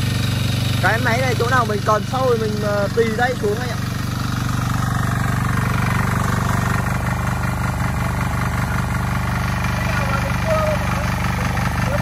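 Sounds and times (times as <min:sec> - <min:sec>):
diesel tiller engine chugging: 0:00.0 - 0:12.0.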